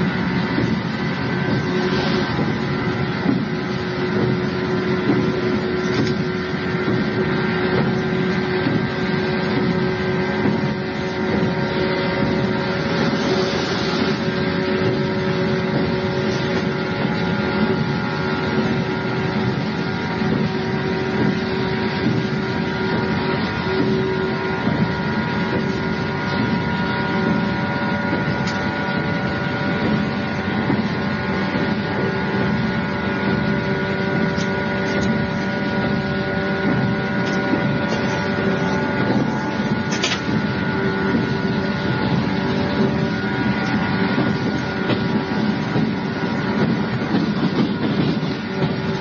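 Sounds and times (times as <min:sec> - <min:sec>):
constant hum: 0:00.0 - 0:49.0
train cabin rumble: 0:00.0 - 0:49.0.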